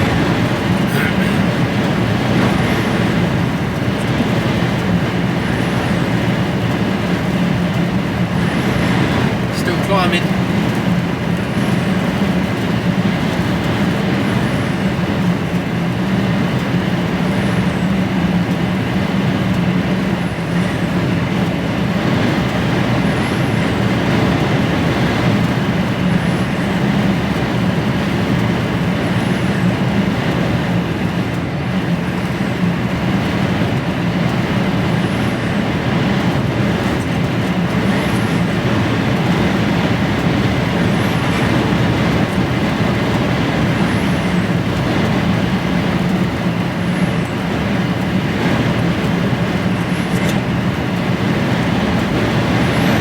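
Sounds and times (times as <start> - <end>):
lorry diesel engine pulling: 0.0 - 53.0
road noise: 0.0 - 53.0.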